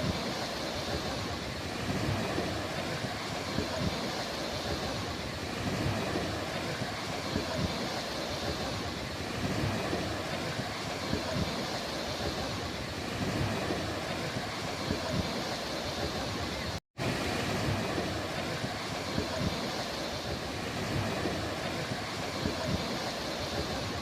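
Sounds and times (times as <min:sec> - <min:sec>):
sea surf washing: 0:00.0 - 0:24.0
wind gusting on microphone: 0:00.0 - 0:24.0.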